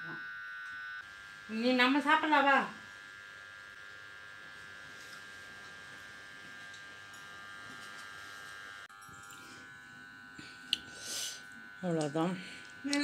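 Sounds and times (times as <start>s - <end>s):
thin high whine: 0.0s - 2.8s, 4.0s - 13.0s.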